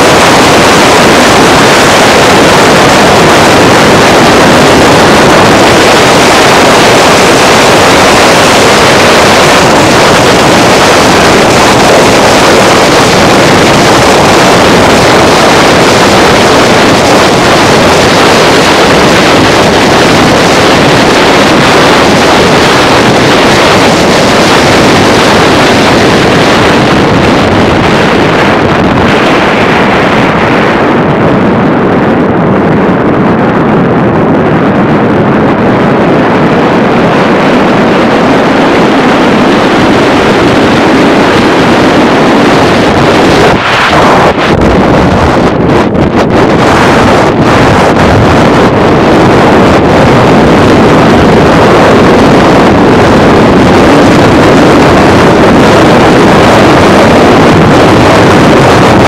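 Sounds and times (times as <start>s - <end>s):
car wind and road noise: 0.0s - 59.0s.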